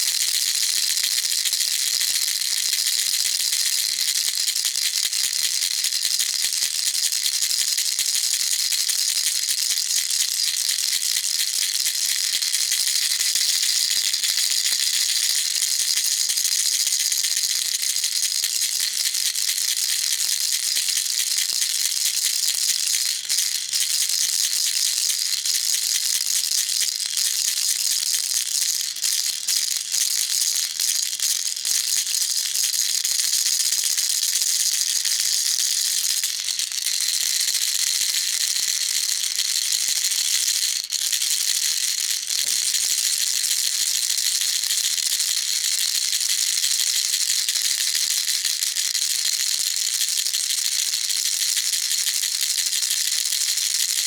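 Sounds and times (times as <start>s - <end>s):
baby rattle shaking: 0.0s - 6.4s, 9.8s - 48.7s.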